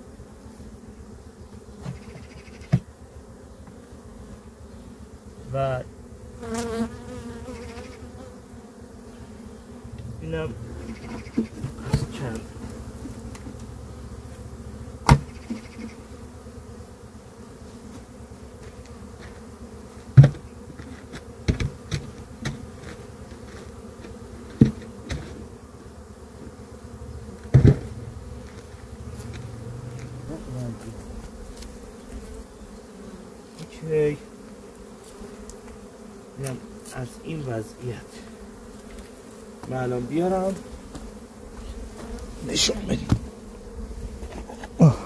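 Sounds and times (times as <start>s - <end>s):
honey bees buzzing: 0.0s - 45.0s.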